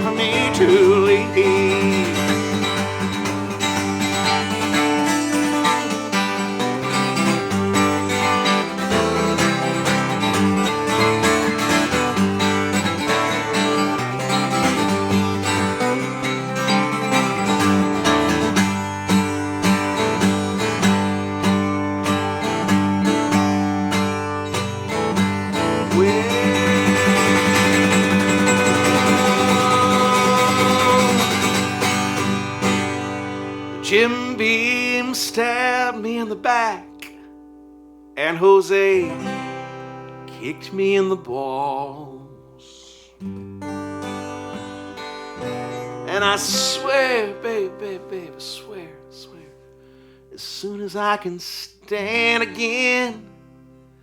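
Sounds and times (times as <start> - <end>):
acoustic guitar country music: 0.0 - 54.0.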